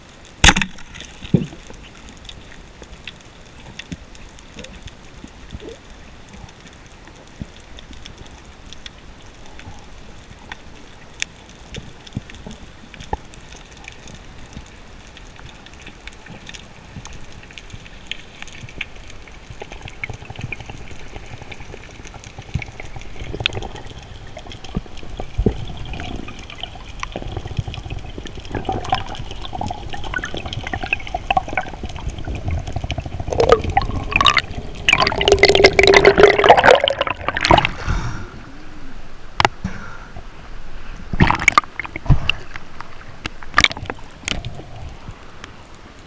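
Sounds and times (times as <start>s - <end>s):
water sloshing and bubbling: 0.0s - 46.0s.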